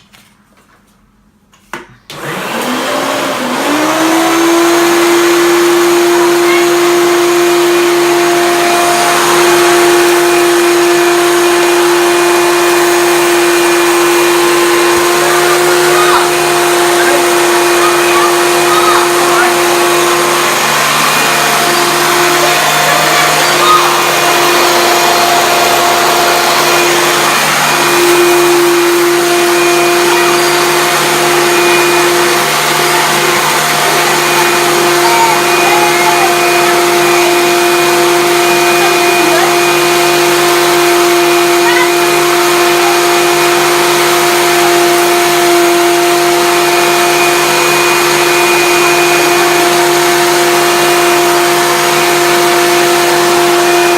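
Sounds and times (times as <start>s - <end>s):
vacuum cleaner running: 2.0s - 53.9s.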